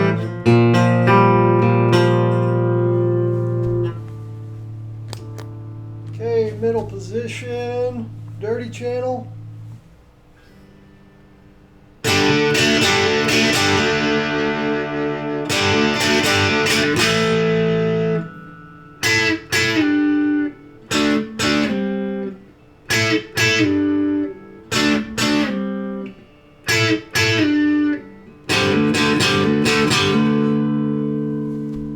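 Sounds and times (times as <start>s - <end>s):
distorted electric guitar chords: 0.0s - 10.0s, 10.8s - 31.9s.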